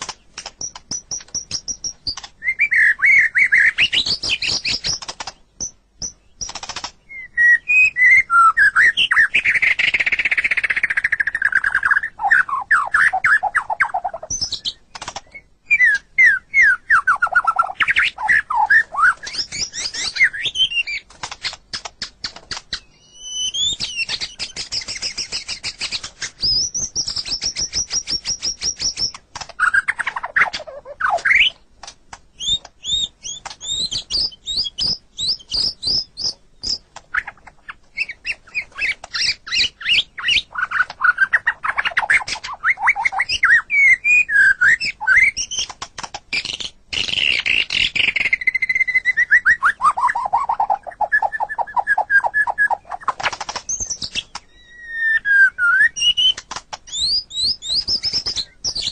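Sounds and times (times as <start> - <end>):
songbird singing varied song: 0.0 - 58.9.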